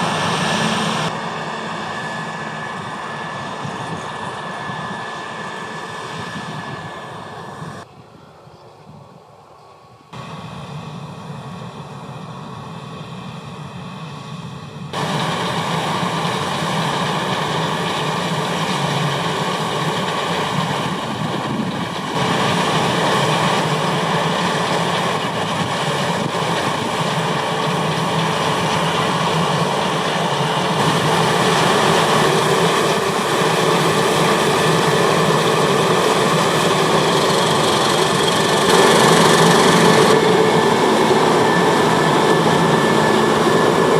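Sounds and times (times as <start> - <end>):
combine harvester engine and threshing: 0.0 - 43.9.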